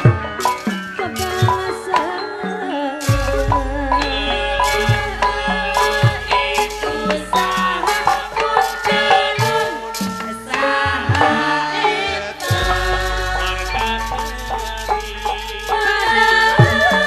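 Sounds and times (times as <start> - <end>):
hand drum strokes: 0.0 - 2.1, 3.0 - 17.0
gamelan music: 0.0 - 17.0
women singing into microphones: 0.6 - 17.0.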